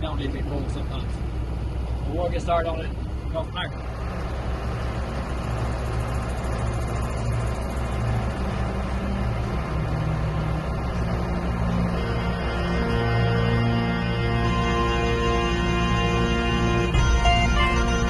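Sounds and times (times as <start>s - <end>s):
combine harvester engine droning: 0.0s - 18.0s.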